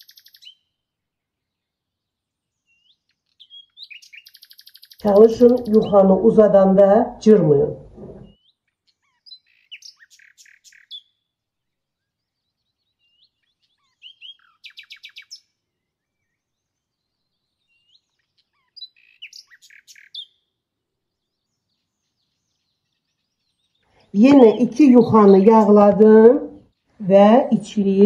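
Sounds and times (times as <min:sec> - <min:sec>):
small songbird singing: 0:00.0 - 0:00.8, 0:01.4 - 0:06.8, 0:08.0 - 0:11.3, 0:12.0 - 0:20.5, 0:21.1 - 0:28.0.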